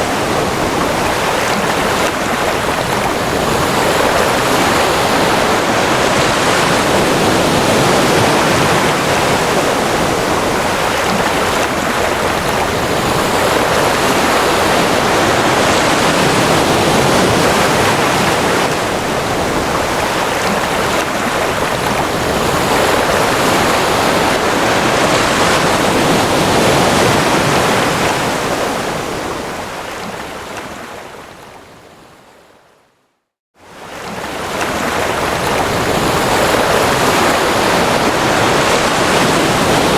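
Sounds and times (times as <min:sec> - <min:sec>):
ocean surf washing: 0:00.0 - 0:32.4, 0:33.6 - 0:39.9.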